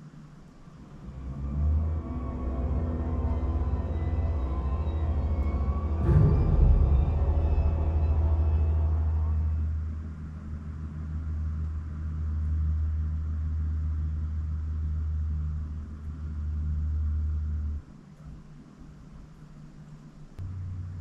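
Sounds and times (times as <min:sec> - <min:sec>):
deep low rumble: 0:00.8 - 0:17.8.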